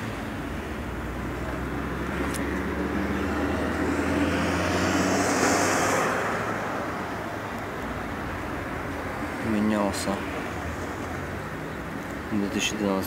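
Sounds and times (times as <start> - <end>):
vehicle passing: 0.0 - 12.8.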